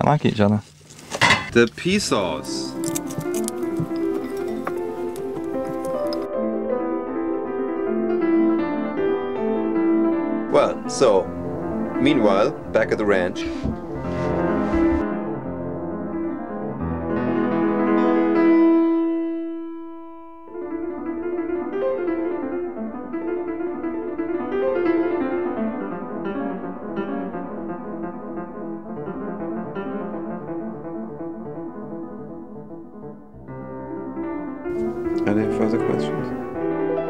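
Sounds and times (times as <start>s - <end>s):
piano music: 1.5s - 37.0s.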